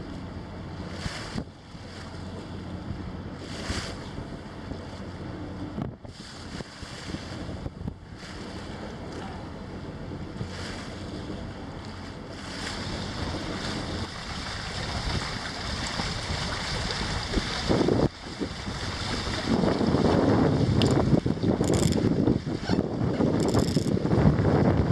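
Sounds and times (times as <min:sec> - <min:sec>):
water rushing past boat hull: 0:00.0 - 0:24.9
wind buffeting microphone: 0:00.0 - 0:24.9.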